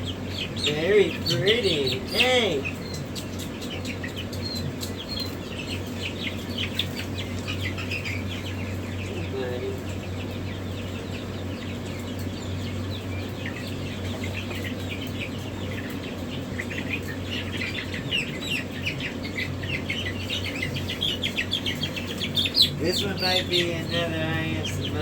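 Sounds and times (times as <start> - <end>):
chicks peeping: 0.0 - 25.0
steady low hum: 0.0 - 25.0.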